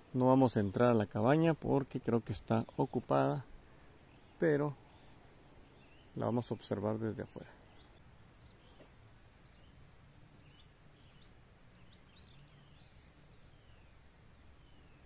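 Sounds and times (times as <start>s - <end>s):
high insect hum: 0.0s - 15.0s
low background hiss: 0.0s - 15.0s.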